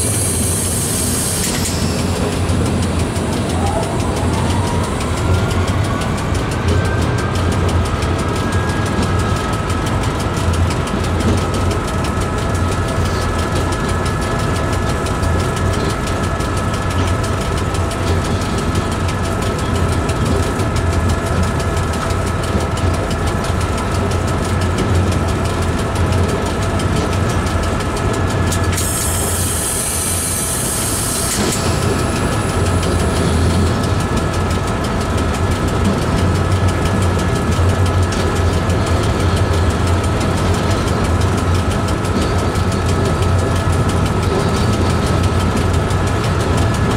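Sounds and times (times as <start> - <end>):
train rumbling through tunnel: 0.0 - 46.9.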